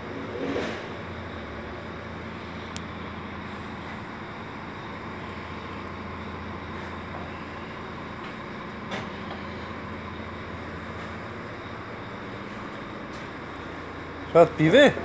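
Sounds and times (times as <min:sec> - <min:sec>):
low mechanical hum: 0:00.0 - 0:15.0
steady noise: 0:00.0 - 0:15.0.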